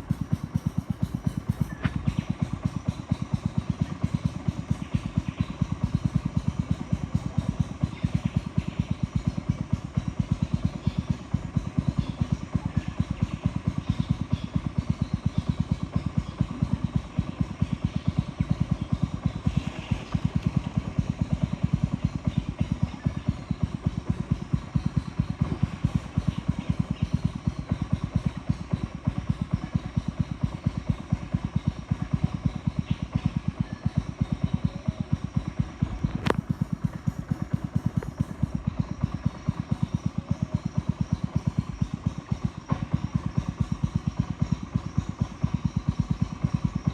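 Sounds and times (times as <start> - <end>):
boat engine chugging: 0.0 - 46.9.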